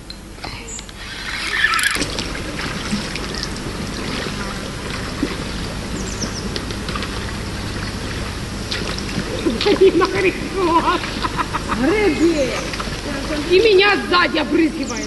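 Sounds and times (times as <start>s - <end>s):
rushing splashing water: 1.1s - 15.0s.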